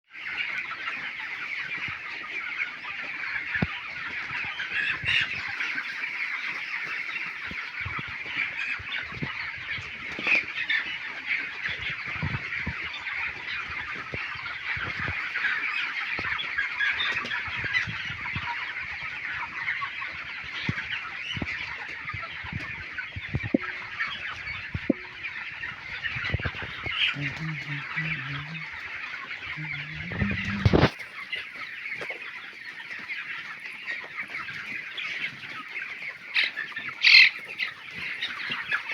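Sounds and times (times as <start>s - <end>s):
chickens clucking: 0.1s - 38.9s.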